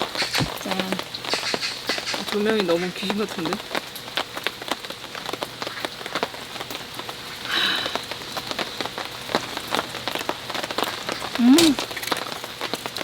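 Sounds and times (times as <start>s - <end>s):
heavy rain on a tarp: 0.0s - 13.0s.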